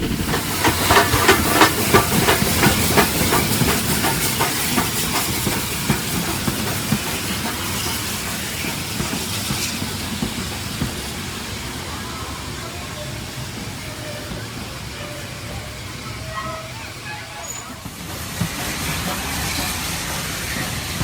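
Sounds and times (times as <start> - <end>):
steam hissing: 0.0 - 21.0
train wheels clicking over rail joints: 0.0 - 21.0.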